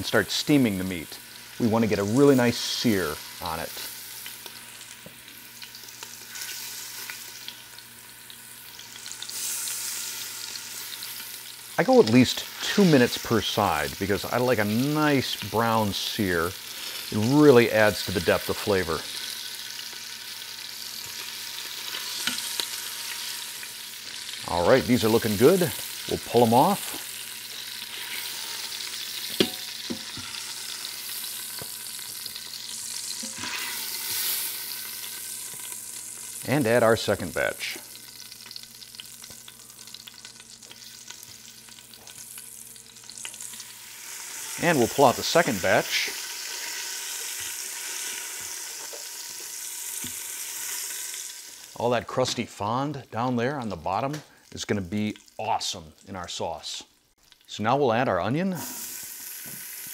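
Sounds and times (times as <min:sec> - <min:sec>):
meat sizzling in hot oil: 0:00.0 - 0:52.2, 0:54.1 - 0:57.5, 0:58.5 - 0:59.9.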